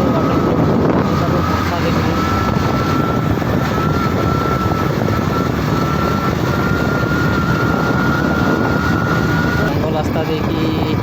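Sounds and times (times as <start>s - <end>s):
motorcycle engine running: 0.0s - 11.0s
rushing air: 0.0s - 11.0s
thin steady whine: 0.0s - 11.0s.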